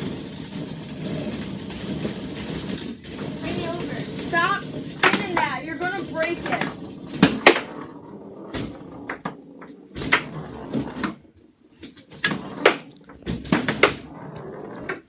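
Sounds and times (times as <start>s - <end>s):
foosball ball clacks: 0.0s - 15.0s
foosball rods knocking: 0.0s - 15.0s.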